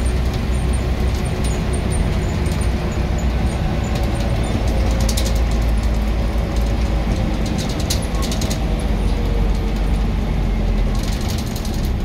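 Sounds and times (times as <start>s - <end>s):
bus diesel drone: 0.0s - 12.0s
light clicks and rattles: 0.1s - 12.0s.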